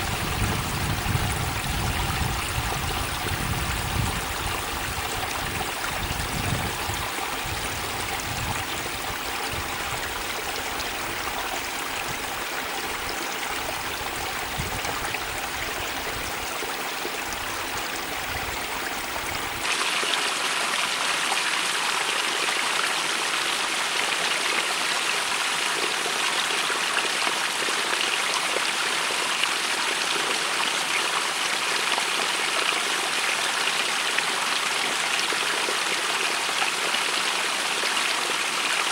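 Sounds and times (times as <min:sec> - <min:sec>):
stream rushing through rocks: 0:00.0 - 0:38.9.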